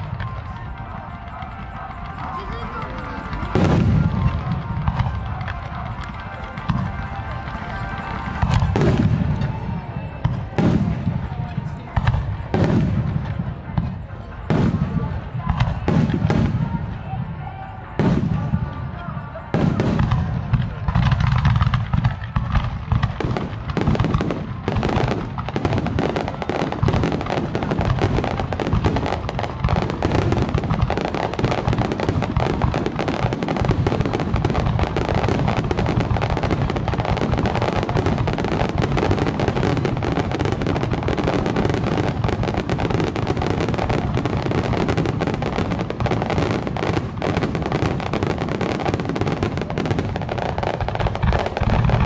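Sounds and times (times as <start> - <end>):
fireworks booming and crackling: 0.0 - 52.0.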